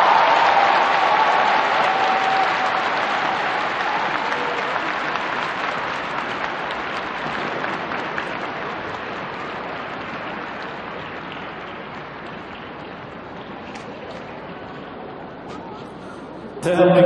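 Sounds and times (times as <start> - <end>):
crowd applauding: 0.0 - 14.7.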